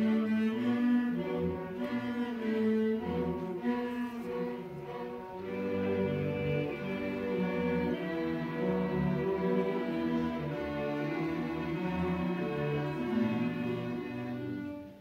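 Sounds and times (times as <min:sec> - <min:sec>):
string orchestra playing chords: 0:00.0 - 0:15.0.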